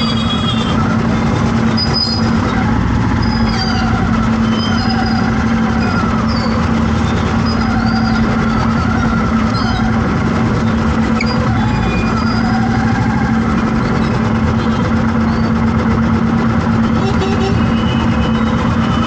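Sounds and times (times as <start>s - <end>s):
engine running with low hum: 0.0s - 19.0s.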